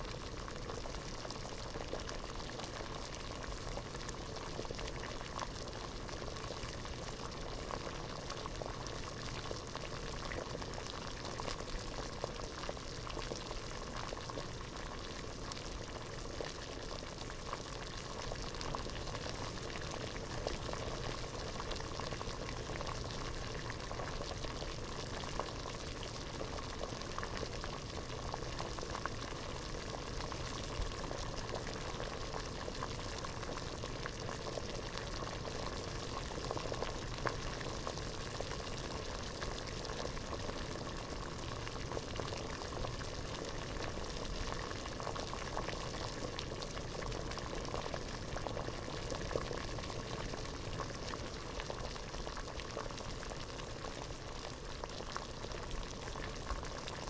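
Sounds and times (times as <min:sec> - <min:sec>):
water boiling in a pot: 0:00.0 - 0:57.0.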